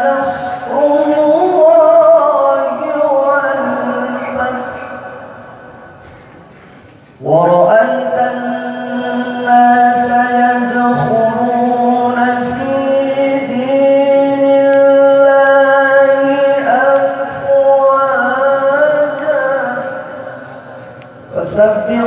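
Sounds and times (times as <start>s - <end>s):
man reciting melodically: 0.0s - 6.1s, 7.2s - 22.0s.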